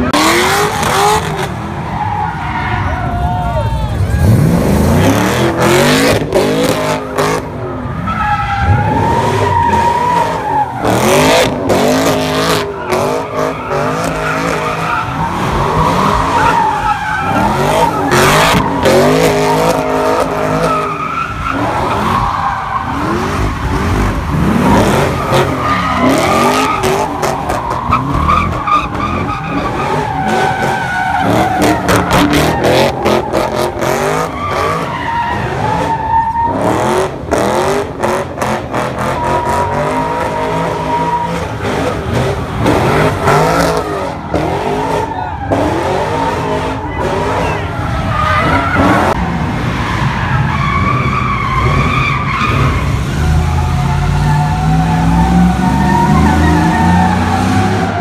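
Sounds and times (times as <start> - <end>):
car engine revving: 0.0 - 2.2, 3.9 - 58.0.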